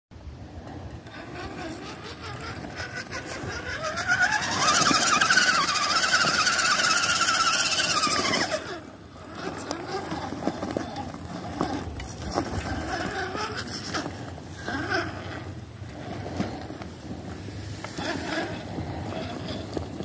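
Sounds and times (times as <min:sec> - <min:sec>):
electric motor whining: 0:00.9 - 0:20.0.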